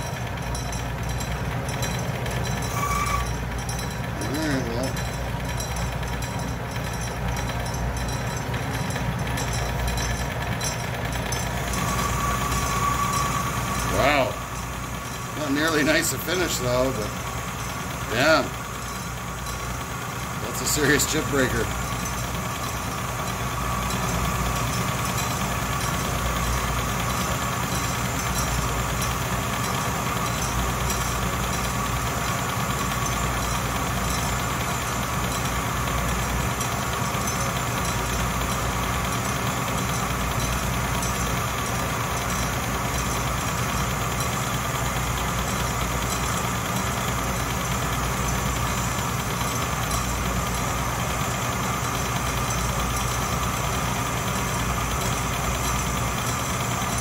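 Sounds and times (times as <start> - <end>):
metal lathe humming: 0.0 - 57.0.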